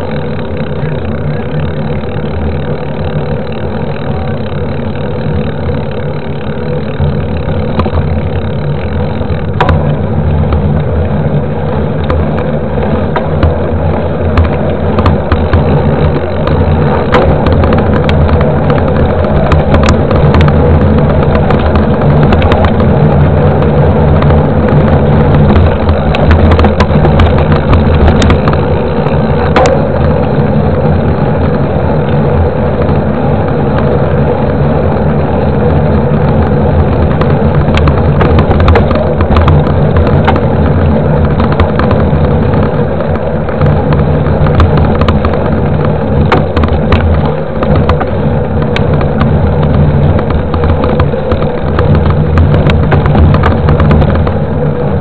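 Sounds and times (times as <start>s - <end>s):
bike road vibration rumble: 0.0s - 55.0s
wind on microphone: 7.0s - 55.0s.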